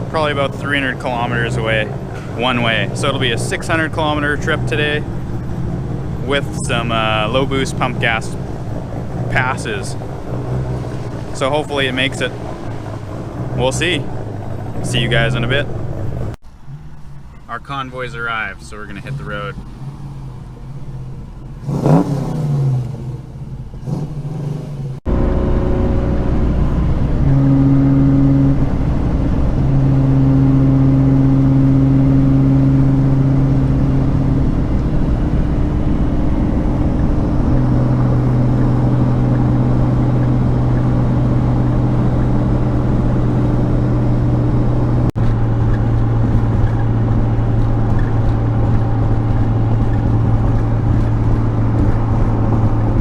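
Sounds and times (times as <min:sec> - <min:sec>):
car engine droning: 0:00.0 - 0:53.0
road noise: 0:00.0 - 0:53.0.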